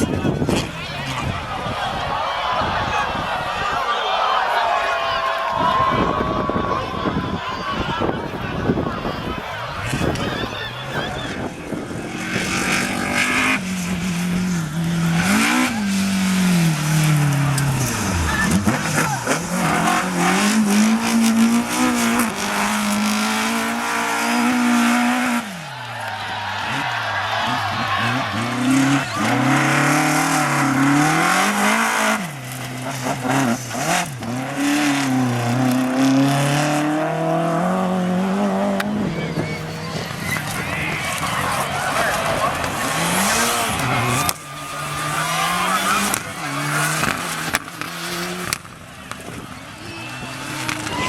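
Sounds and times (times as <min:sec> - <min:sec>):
rally car engine revving: 0:00.0 - 0:02.0, 0:08.0 - 0:51.0.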